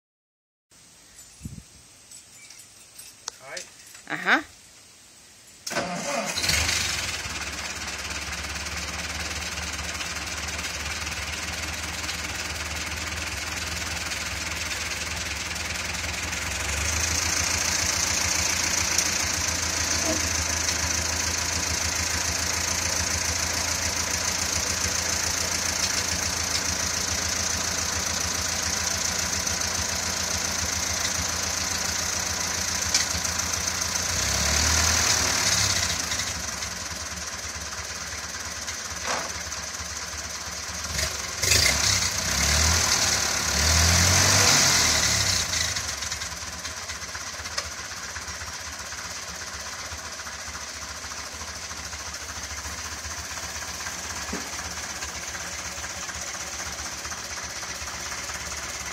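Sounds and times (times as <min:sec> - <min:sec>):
tractor engine idling and revving: 0:05.4 - 0:58.9.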